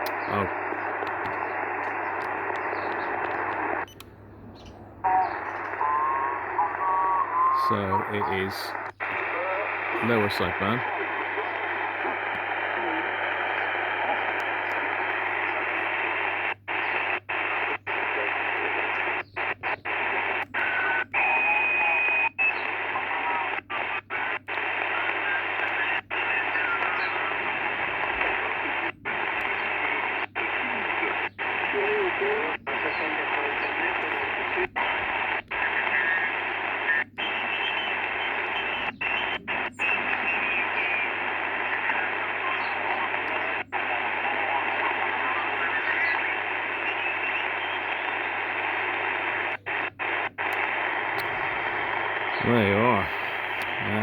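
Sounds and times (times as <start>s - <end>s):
faint garbled radio signals: 0.0s - 54.0s
radio band hiss: 0.0s - 54.0s.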